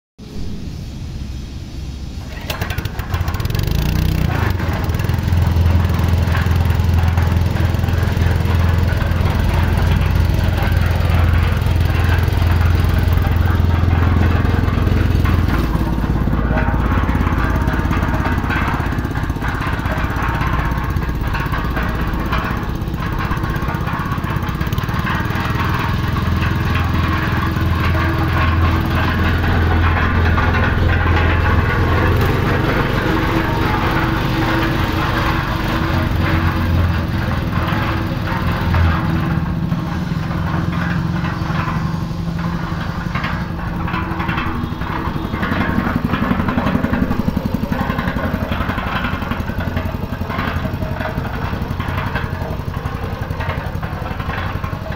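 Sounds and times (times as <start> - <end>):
concrete mixer petrol engine running: 2.2 - 54.9.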